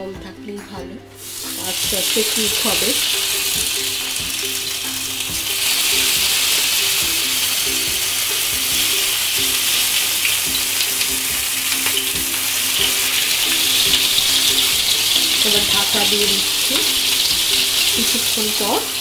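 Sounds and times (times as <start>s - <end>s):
oil sizzling in a pan: 1.2s - 19.0s.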